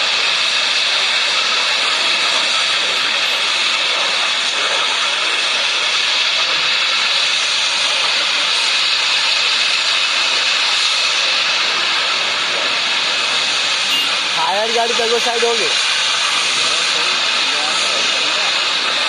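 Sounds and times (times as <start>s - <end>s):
gas hissing under pressure: 0.0s - 19.0s.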